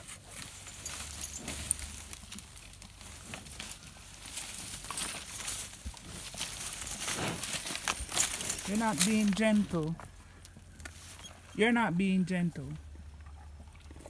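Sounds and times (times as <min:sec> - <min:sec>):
cows crunching food: 0:00.0 - 0:14.0.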